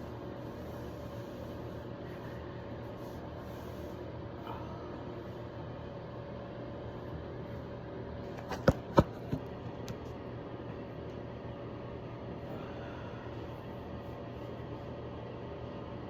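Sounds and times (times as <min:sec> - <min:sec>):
appliance hum: 0:00.0 - 0:16.0.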